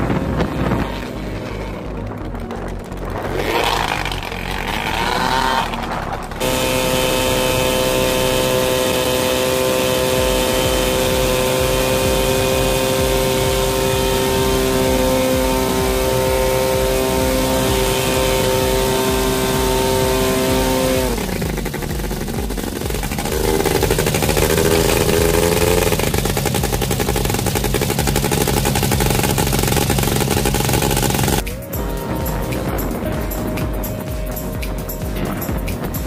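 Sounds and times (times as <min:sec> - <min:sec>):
light aircraft engine running: 0:00.0 - 0:36.0.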